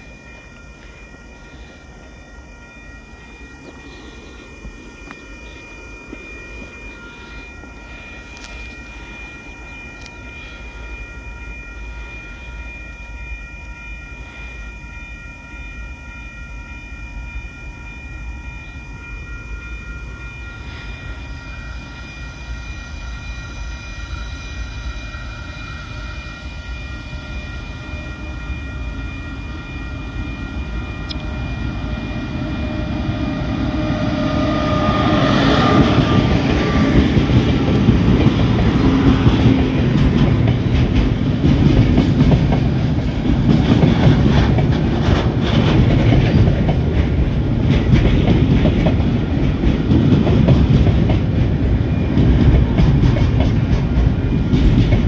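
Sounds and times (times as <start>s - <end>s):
diesel freight train passing: 0.0s - 55.0s.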